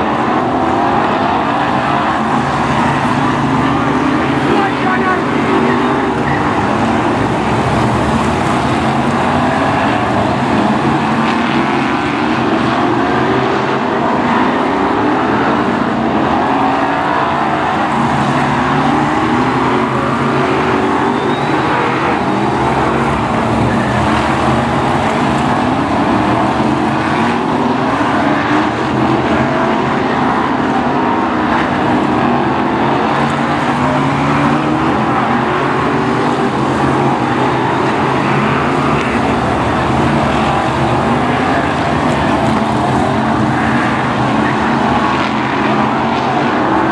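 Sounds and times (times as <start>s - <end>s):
racing car engines revving: 0.0s - 46.9s.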